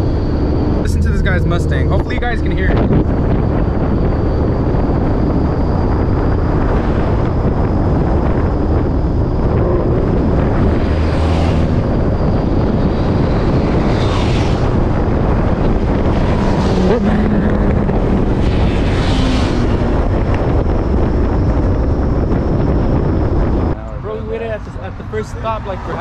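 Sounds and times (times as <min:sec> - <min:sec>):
car exhaust rumbling: 0:00.0 - 0:26.0
wind noise on microphone: 0:00.0 - 0:26.0.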